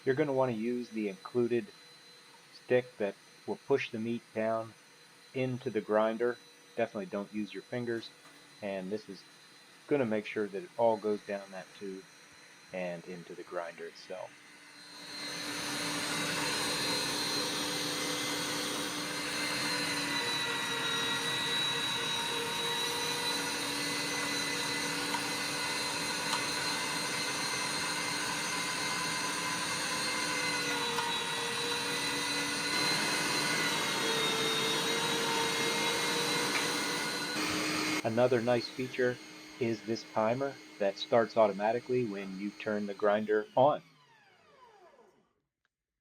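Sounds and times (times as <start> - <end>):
electric meat grinder motor whine: 0.0 - 45.2.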